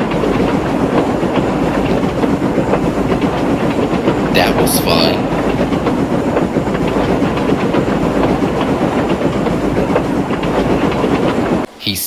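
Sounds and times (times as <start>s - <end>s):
wheels rattling on rails: 0.0s - 11.8s
steam locomotive running: 0.0s - 12.0s.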